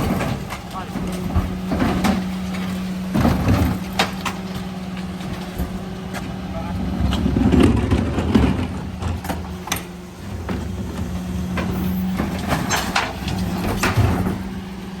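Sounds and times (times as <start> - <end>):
sharp clanks and knocks: 0.0 - 6.4, 7.0 - 14.6
refuse truck humming: 0.0 - 15.0.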